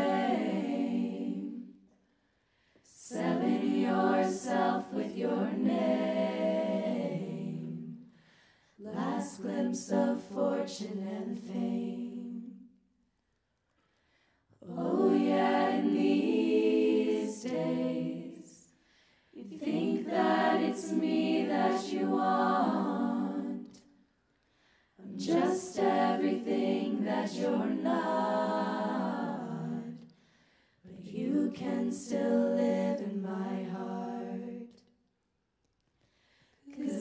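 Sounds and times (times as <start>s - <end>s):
women singing a cappella chords: 0.0s - 2.0s, 2.8s - 12.8s, 14.6s - 24.0s, 25.0s - 35.0s, 36.6s - 37.0s.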